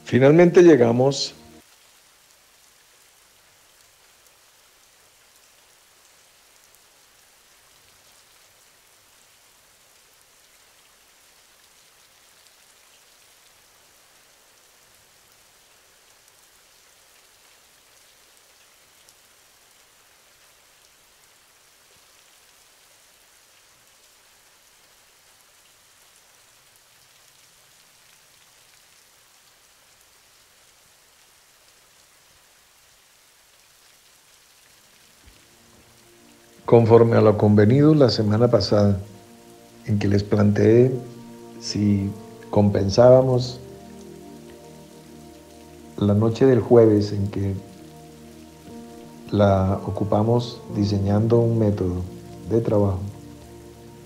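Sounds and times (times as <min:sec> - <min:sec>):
rain falling: 0:00.0 - 0:54.0
light crackles: 0:01.3 - 0:54.0.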